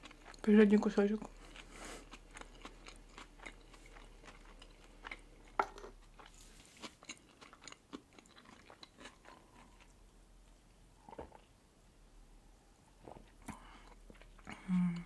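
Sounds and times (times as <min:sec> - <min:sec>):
person chewing with wet clicks: 0:00.0 - 0:11.5, 0:13.0 - 0:15.0.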